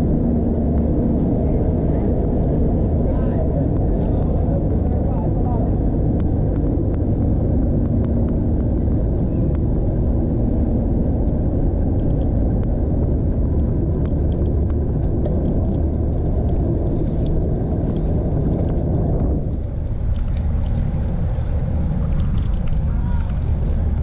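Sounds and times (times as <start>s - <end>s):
traffic: 0.0s - 24.0s
wind and road noise: 0.0s - 24.0s.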